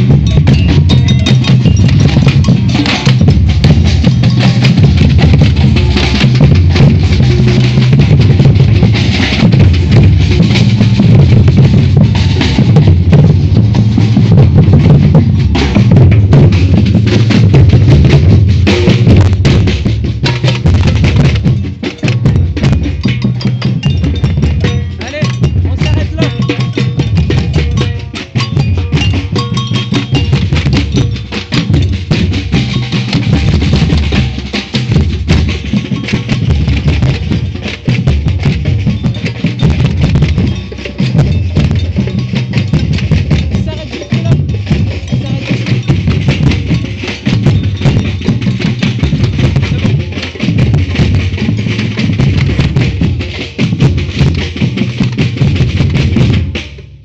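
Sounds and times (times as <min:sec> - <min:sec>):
deep bass drums: 0:00.0 - 0:57.0
percussion ensemble playing: 0:00.0 - 0:57.0.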